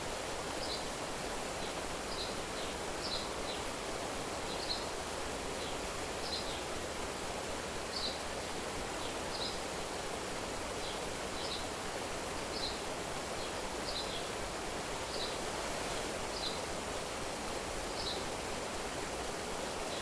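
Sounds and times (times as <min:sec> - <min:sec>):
steady rustling hiss: 0:00.0 - 0:20.0.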